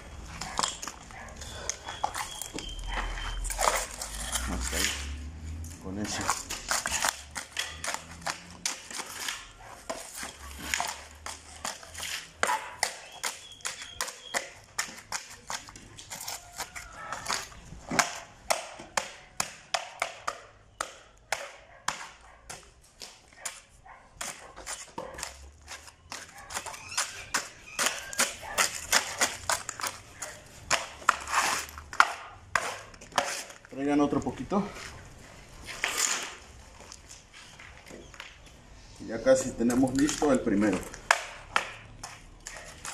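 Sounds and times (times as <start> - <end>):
shovel striking and scraping mix: 0.0 - 35.0, 35.6 - 36.6, 39.3 - 42.9.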